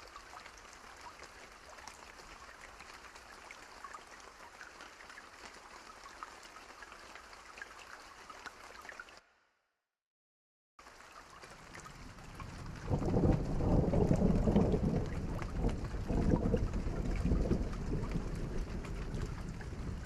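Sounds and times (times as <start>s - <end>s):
soft rain: 0.0s - 9.3s, 10.8s - 20.0s.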